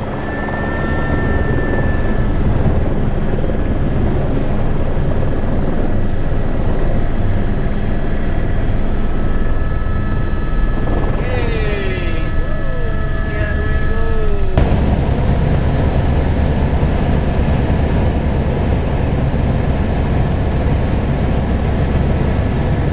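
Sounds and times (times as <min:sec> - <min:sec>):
helicopter rotor and engine rumble: 0:00.0 - 0:22.9.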